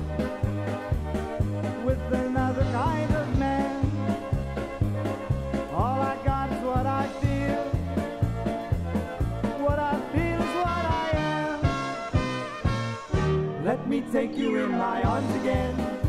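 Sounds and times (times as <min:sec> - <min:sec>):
polka band playing: 0:00.0 - 0:16.0.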